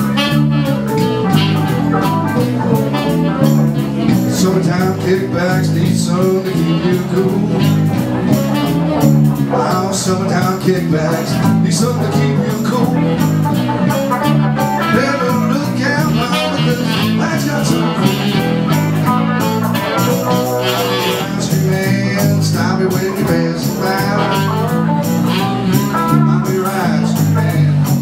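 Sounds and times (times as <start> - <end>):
electric guitar: 0.0 - 28.0
live dance band playing: 0.0 - 28.0.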